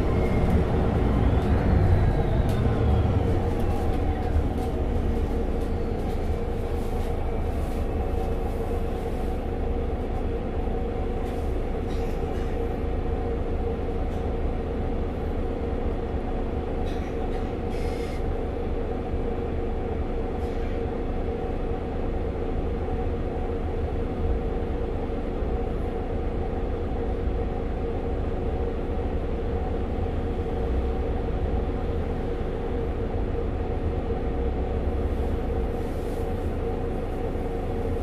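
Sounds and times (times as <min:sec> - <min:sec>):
bus diesel engine idling: 0:00.0 - 0:38.0.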